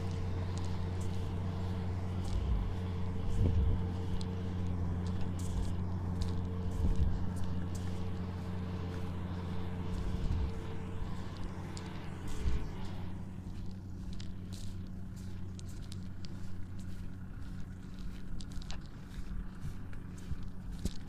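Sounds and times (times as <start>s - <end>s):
faint steady whine: 0.0s - 21.0s
tractor diesel engine running: 0.0s - 21.0s.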